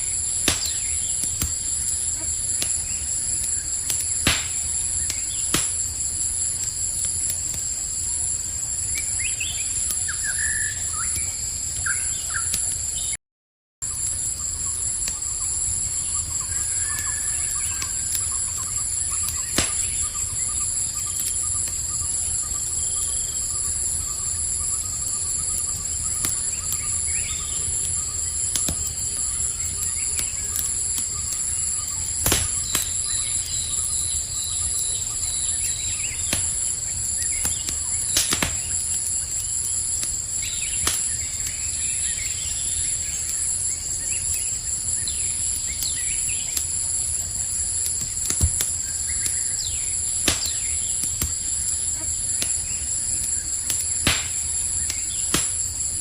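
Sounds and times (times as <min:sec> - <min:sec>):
campfire crackling and popping: 0:00.0 - 0:13.1, 0:13.8 - 0:56.0
crickets trilling: 0:00.0 - 0:13.2, 0:13.8 - 0:56.0.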